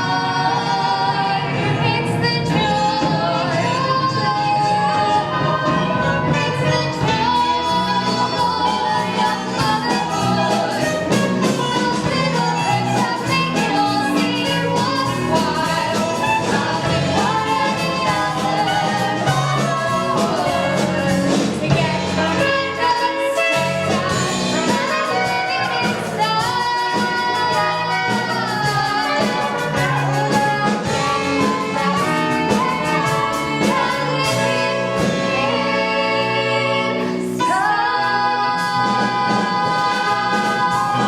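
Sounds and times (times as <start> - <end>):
band playing with brass: 0.0 - 41.0
singing: 0.0 - 41.0.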